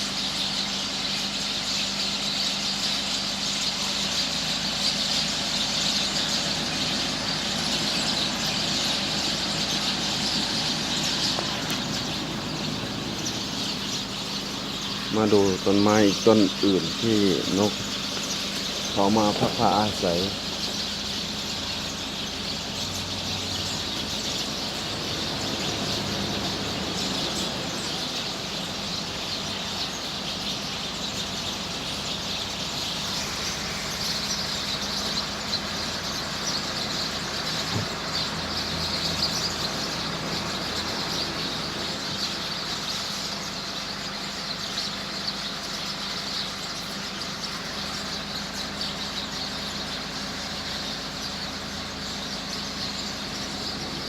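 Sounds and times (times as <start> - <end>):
flock of birds twittering: 0.0 - 54.0
traffic hum: 0.0 - 54.0.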